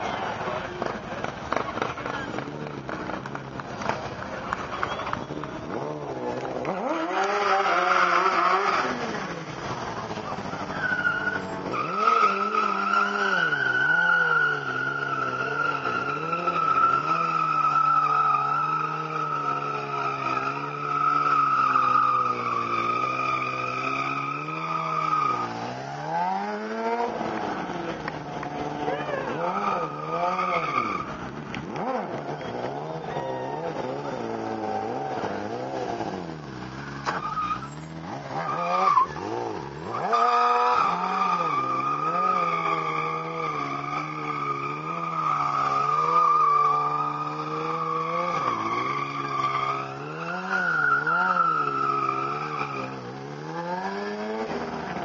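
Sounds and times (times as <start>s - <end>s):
motorcycle engine revving: 0.0s - 55.0s
tyre squeal on tarmac: 1.5s - 55.0s.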